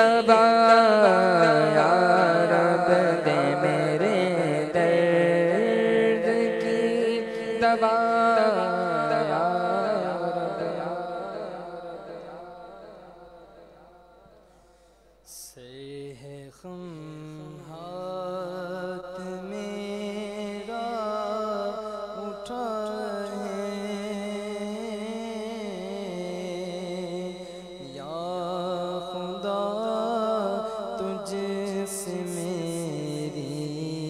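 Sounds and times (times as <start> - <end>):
man chanting in long wavering notes: 0.0 - 13.0, 15.4 - 34.0.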